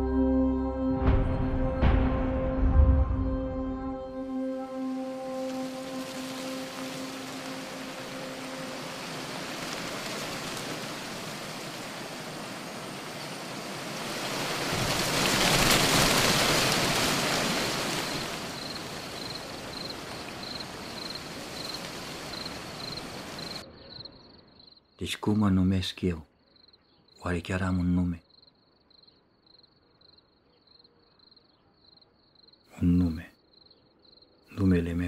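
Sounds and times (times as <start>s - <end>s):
crickets chirping: 2.6s - 35.0s.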